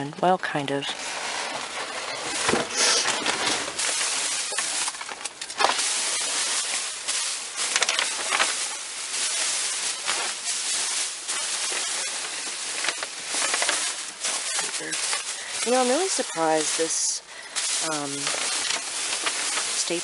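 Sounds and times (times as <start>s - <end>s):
plastic packaging rustling: 0.0s - 20.0s.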